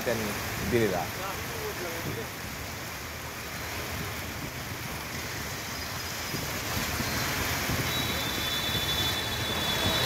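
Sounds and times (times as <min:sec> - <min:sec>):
tyres hissing on wet road: 0:00.0 - 0:10.0
vehicles passing: 0:00.0 - 0:10.0.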